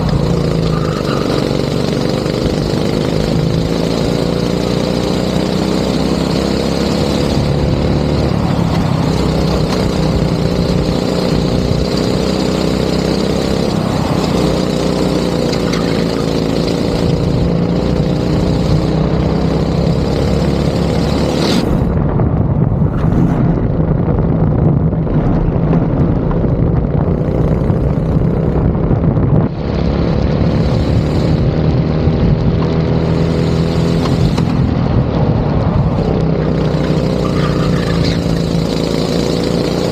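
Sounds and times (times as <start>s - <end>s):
go-kart engine revving: 0.0s - 22.0s, 26.9s - 39.9s.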